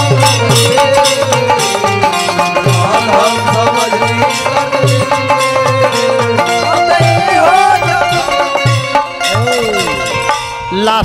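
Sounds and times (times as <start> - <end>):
sliding folk melody: 0.0 - 11.0.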